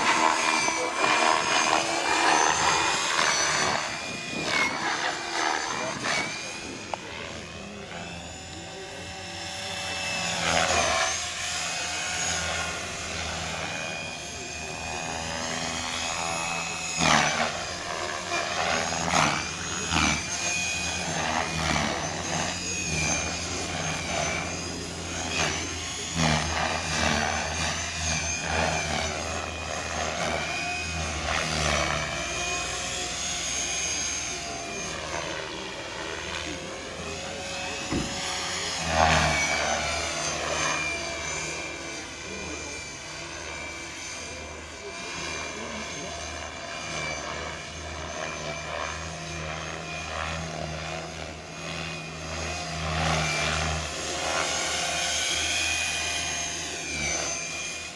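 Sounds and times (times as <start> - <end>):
model helicopter motor whine: 0.0 - 57.9.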